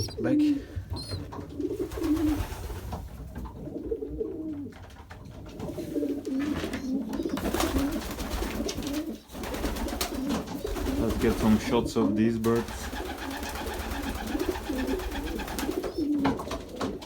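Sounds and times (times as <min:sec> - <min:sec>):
pigeons cooing: 0:00.0 - 0:04.8, 0:05.4 - 0:17.0.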